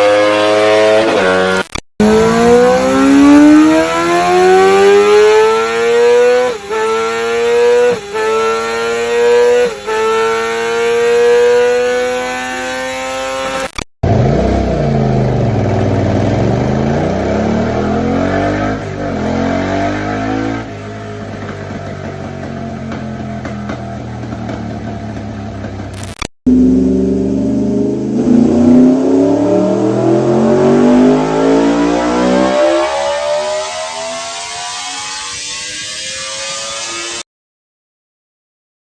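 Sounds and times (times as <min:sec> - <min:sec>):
gear changes: 0:00.0 - 0:37.2
motorcycle exhaust revving: 0:00.0 - 0:37.2
sport bike accelerating: 0:00.0 - 0:37.2.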